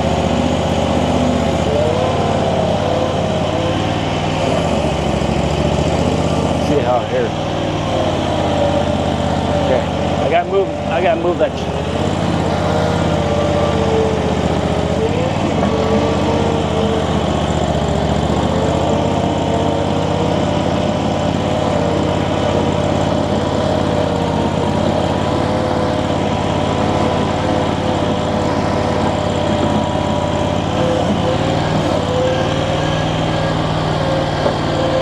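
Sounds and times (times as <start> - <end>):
skid steer engine running: 0.0 - 35.0.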